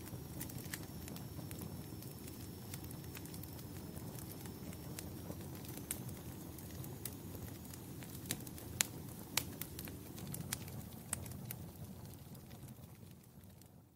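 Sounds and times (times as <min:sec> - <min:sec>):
wood fire crackling: 0:00.0 - 0:13.9.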